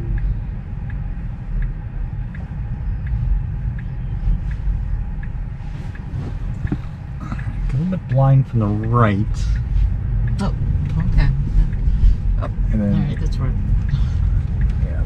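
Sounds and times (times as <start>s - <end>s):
low car cabin rumble: 0.0s - 15.0s
turn signal ticking: 0.0s - 15.0s.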